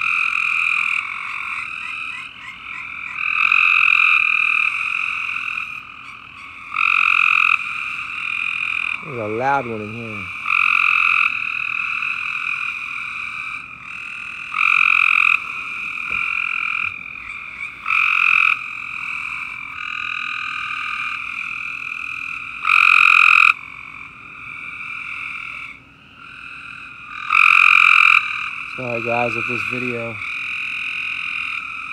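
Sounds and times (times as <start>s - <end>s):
frog chorus: 0.0s - 31.9s
loud close frog call: 0.0s - 31.9s.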